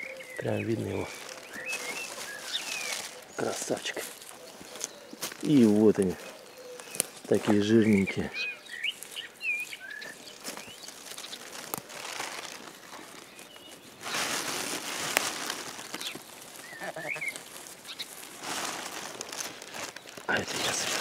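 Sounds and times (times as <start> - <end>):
bird chirping: 0.0 - 18.2
rustling of dry forest litter: 0.0 - 21.0.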